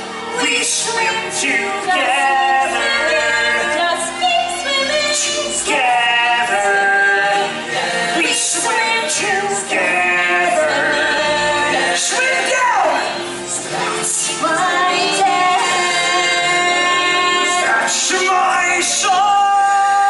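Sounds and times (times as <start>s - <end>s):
recorded music: 0.0s - 20.0s
cast singing together: 0.3s - 20.0s.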